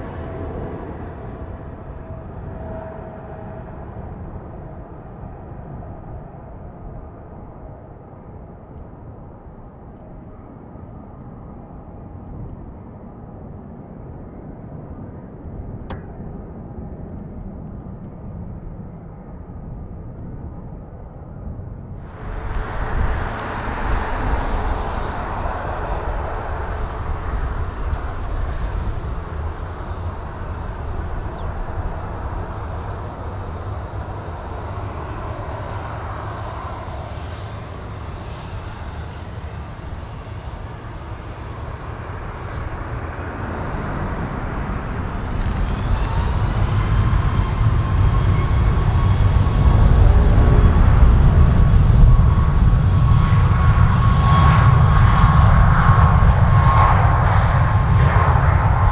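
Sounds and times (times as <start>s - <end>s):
jet engine whine: 0.0s - 58.9s
jet engines roaring: 0.0s - 58.9s.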